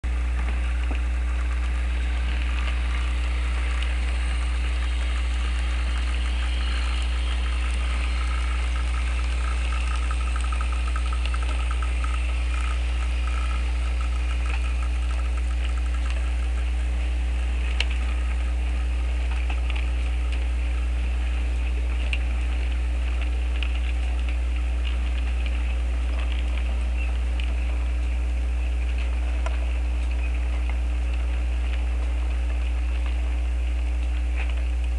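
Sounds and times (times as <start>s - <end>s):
faint ticking: 0.1s - 34.9s.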